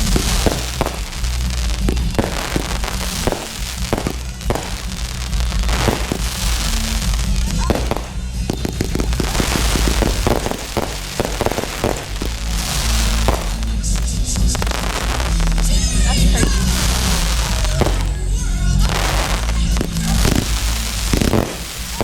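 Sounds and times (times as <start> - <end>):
fireworks bursts and bangs: 0.0 - 22.0
music with heavy bass: 0.0 - 22.0.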